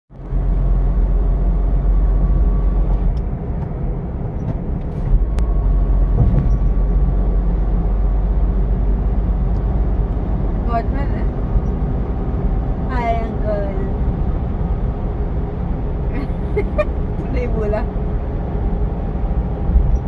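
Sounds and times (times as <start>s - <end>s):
car road and engine rumble: 0.1s - 20.0s.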